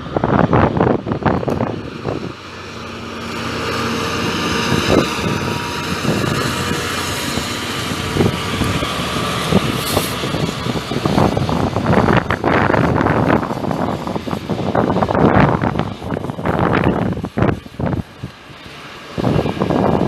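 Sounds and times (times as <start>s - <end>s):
train mechanical noise: 0.0s - 20.0s
wind bumps on microphone: 0.0s - 20.0s.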